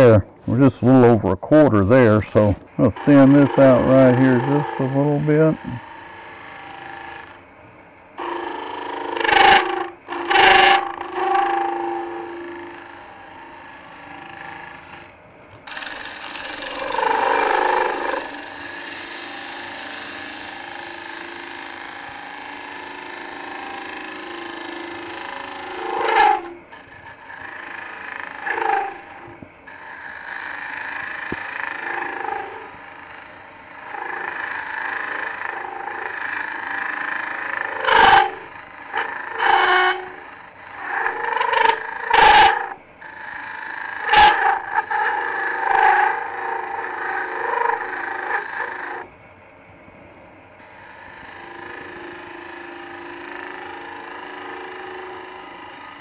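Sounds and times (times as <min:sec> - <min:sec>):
lathe humming: 0:00.0 - 0:49.1, 0:50.6 - 0:56.0
tool cutting wood hiss: 0:01.7 - 0:07.6, 0:08.2 - 0:49.1, 0:50.6 - 0:56.0.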